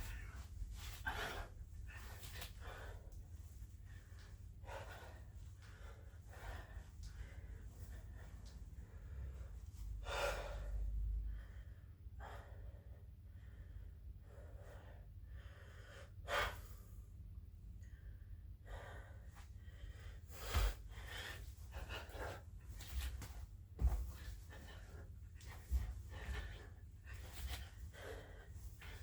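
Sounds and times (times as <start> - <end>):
man breathing hard: 0.0 - 29.0.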